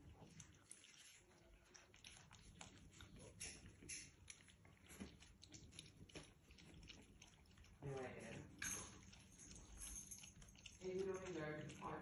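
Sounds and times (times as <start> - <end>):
puppies crunching kibble: 0.0 - 12.0.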